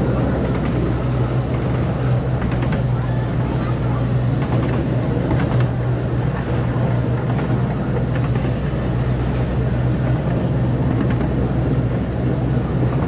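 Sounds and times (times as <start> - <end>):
carriage rumbling on track: 0.0 - 13.0
ride train low drone: 0.0 - 13.0.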